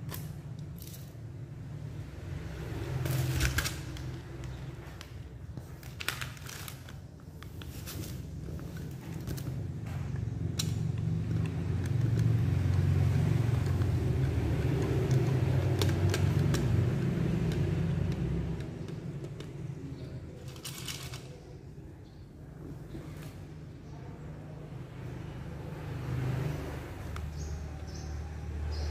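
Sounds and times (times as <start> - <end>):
vehicle passing rumble: 0.0 - 5.9, 7.6 - 21.3, 22.6 - 28.9.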